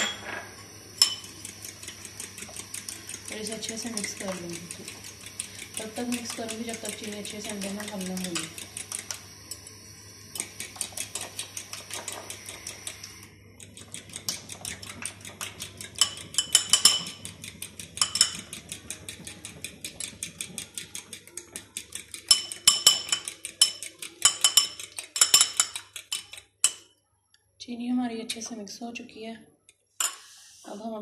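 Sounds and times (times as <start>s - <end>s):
fork whisking eggs in glass bowl: 1.0s - 9.7s, 10.3s - 27.0s.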